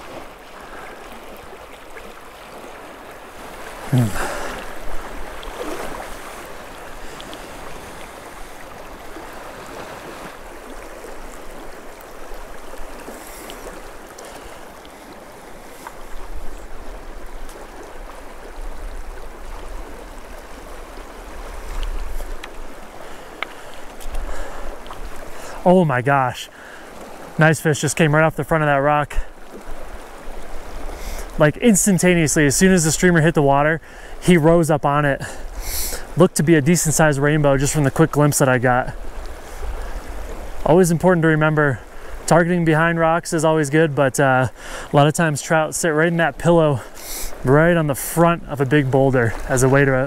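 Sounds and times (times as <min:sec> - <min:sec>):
river water rushing over cobbles: 0:00.0 - 0:50.0.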